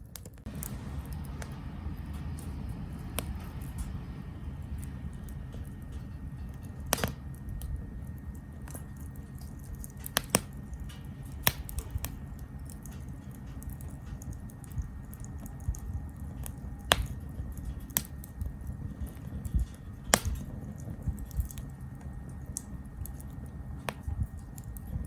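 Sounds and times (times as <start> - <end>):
campfire crackling: 0.1 - 25.0
low steady rumble: 0.4 - 25.0.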